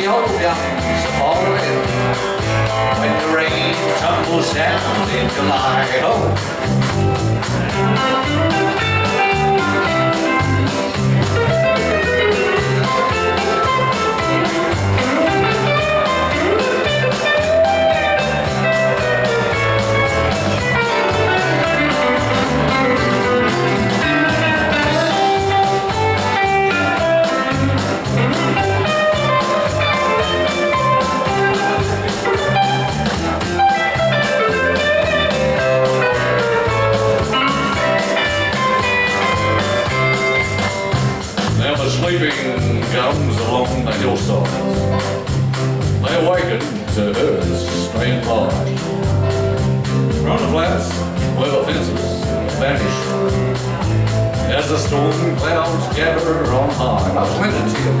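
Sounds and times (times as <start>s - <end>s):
instrumental country music: 0.0s - 58.0s.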